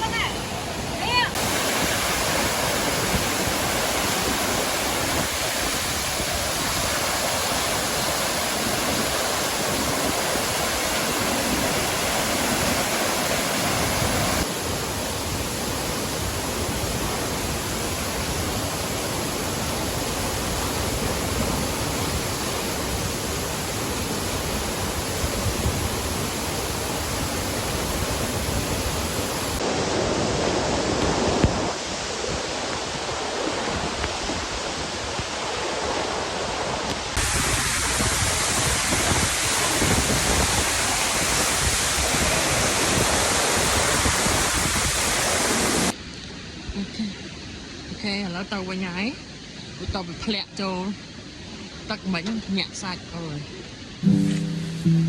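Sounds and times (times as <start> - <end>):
waterfall roaring: 0.0 - 46.0.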